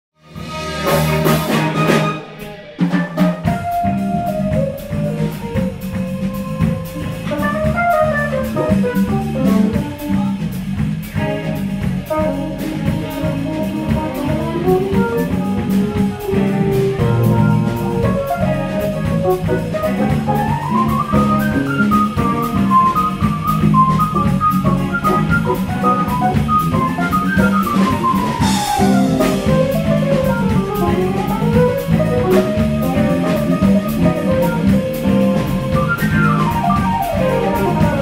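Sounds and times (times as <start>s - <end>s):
drum kit beat: 0.2s - 38.0s
electric bass: 0.2s - 38.0s
electric guitar: 0.2s - 38.0s
quick lead melody: 0.2s - 38.0s
keyboards: 0.4s - 38.0s.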